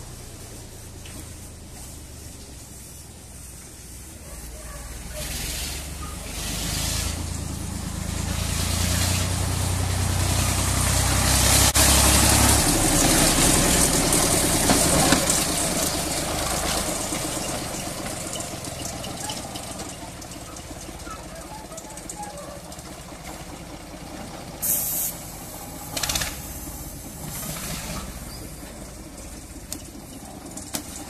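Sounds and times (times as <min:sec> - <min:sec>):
diesel locomotive engine drone: 0:00.0 - 0:31.0.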